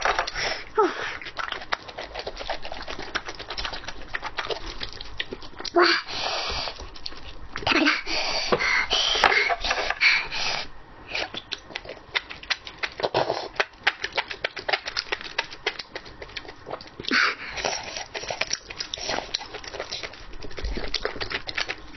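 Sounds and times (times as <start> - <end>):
wet chewing mouth sounds: 0.0 - 8.5, 9.7 - 21.9.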